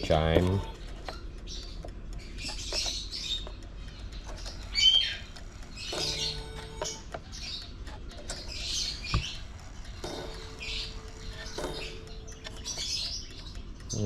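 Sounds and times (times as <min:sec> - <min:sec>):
sharp click: 0:00.0 - 0:14.0
small birds chirping: 0:00.0 - 0:14.0.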